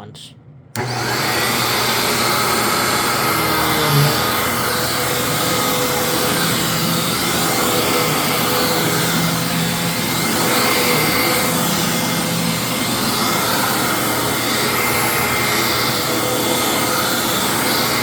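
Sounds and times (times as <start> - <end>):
vacuum cleaner whining: 0.8 - 18.0.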